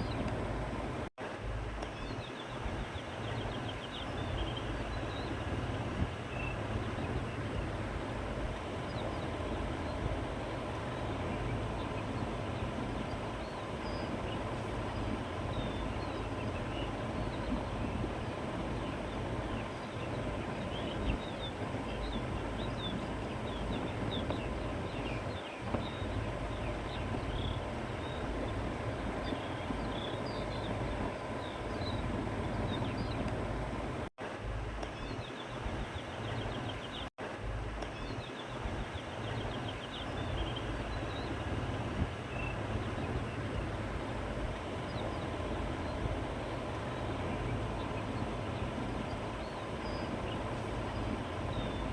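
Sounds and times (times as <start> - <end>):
wind blowing across grassland: 0.0 - 51.9.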